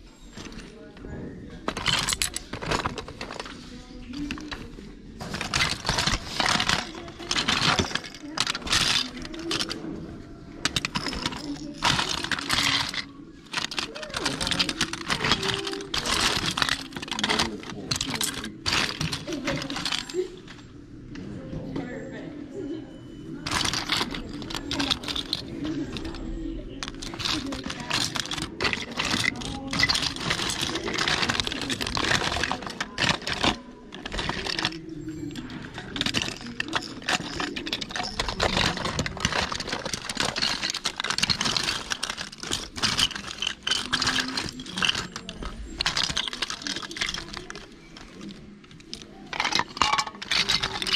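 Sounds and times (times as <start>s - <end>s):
plastic toys clattering: 0.0s - 20.9s, 23.1s - 50.9s.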